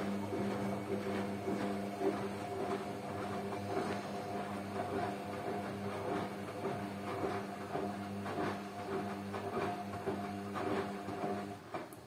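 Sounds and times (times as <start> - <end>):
wet laundry swishing: 0.0 - 11.6
washing machine motor hum: 0.0 - 12.0.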